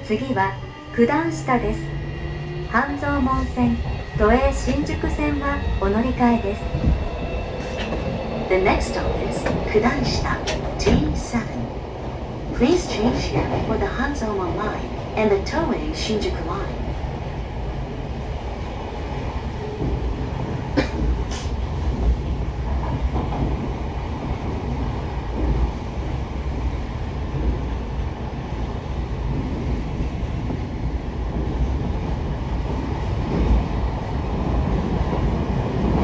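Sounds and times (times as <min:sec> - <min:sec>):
subway train wheels rumbling on rail: 0:00.0 - 0:36.0.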